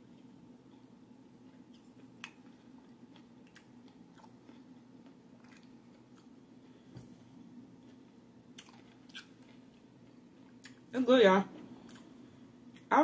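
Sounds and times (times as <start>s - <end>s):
faint chewing with crunches: 0.0s - 10.9s, 11.5s - 12.9s
low steady hum: 0.0s - 13.0s.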